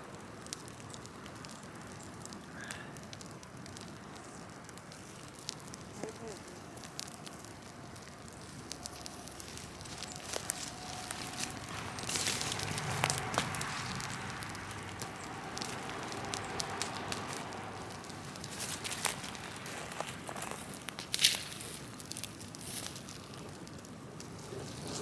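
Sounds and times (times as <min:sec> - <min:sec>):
bonfire flames rushing: 0:00.0 - 0:25.0
burning wood crackling and popping: 0:00.0 - 0:25.0.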